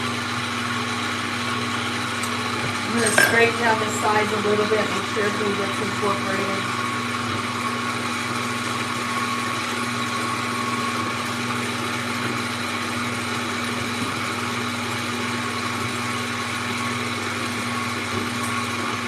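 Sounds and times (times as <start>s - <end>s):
stand mixer motor whine: 0.0s - 19.0s.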